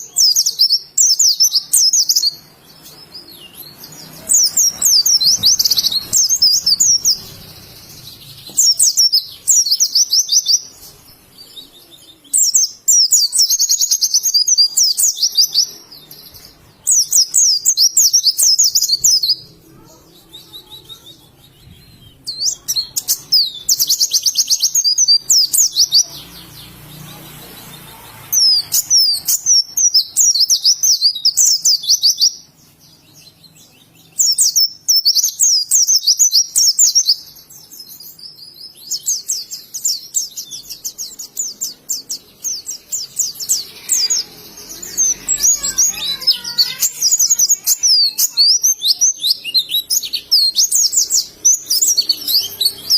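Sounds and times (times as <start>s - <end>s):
bird high-pitched twittering: 0.0s - 52.9s.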